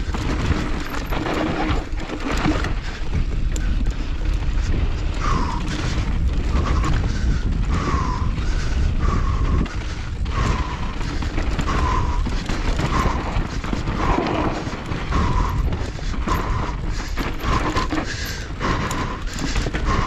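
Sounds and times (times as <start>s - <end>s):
bike rattling over ground: 0.0s - 20.0s
wind buffeting microphone: 0.0s - 20.0s.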